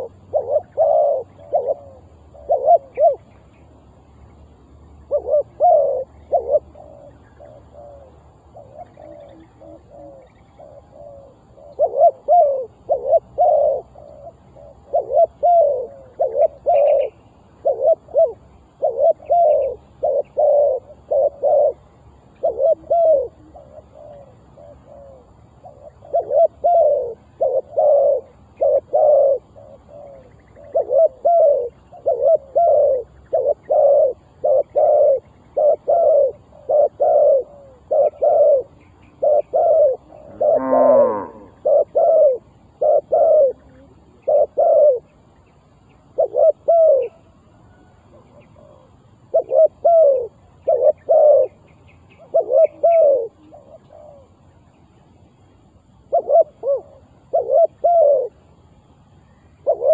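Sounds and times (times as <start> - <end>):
dove cooing: 0.0 - 3.5, 4.8 - 54.7, 55.7 - 58.7, 59.6 - 59.9.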